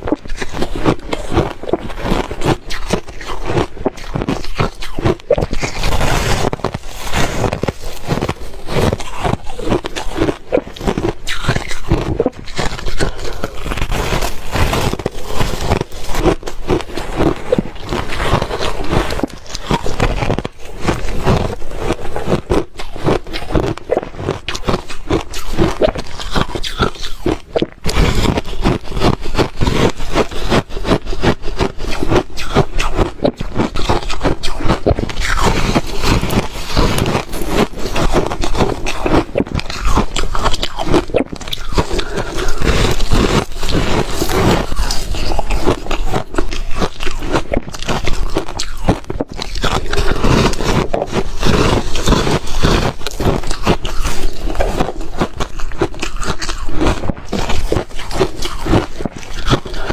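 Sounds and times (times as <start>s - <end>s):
chewing ice crunches: 0.0s - 59.9s.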